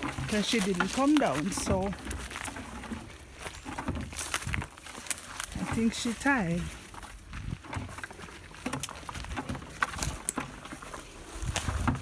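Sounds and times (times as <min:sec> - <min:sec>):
footsteps through dry grass and leaves: 0:00.0 - 0:12.0.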